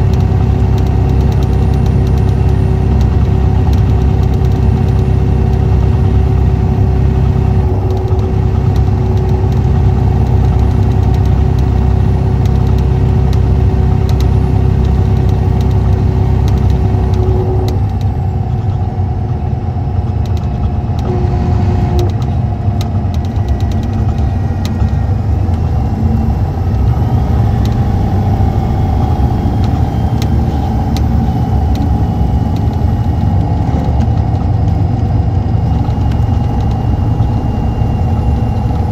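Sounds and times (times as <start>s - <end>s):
diesel engine drone: 0.0s - 38.9s.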